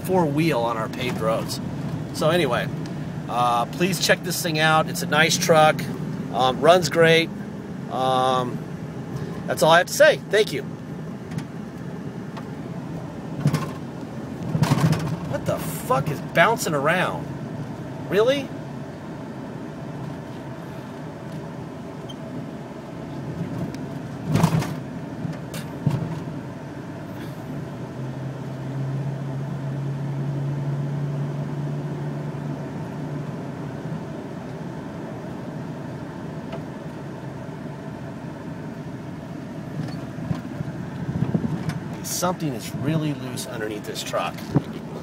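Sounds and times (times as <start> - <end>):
truck engine and road noise: 0.0 - 45.0.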